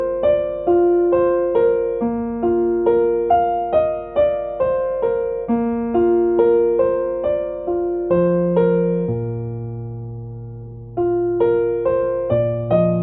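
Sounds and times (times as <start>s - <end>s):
gentle electric piano melody: 0.0s - 13.0s.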